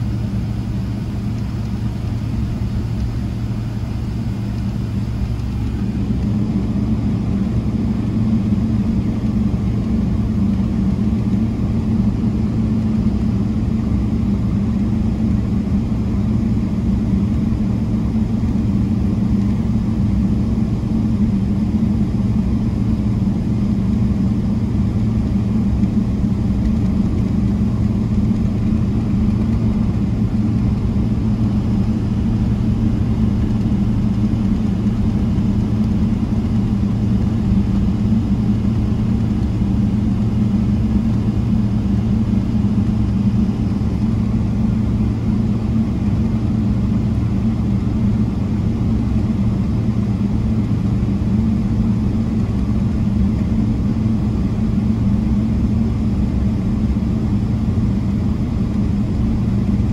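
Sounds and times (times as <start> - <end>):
airplane cabin hum: 0.0 - 59.9.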